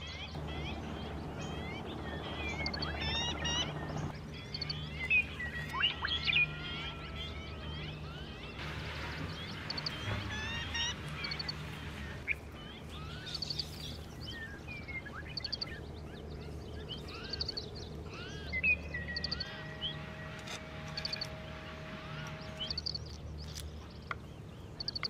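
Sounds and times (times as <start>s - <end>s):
birds chirping and trilling: 0.0s - 25.0s
low background hum: 0.0s - 25.0s.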